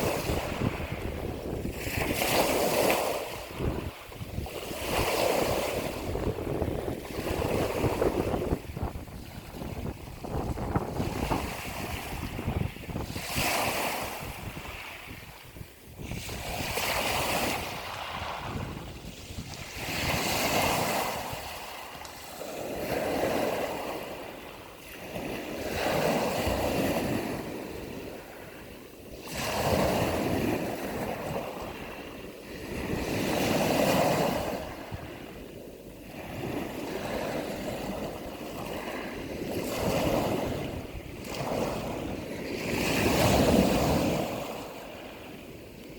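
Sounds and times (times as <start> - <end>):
waves breaking: 0.0 - 45.9.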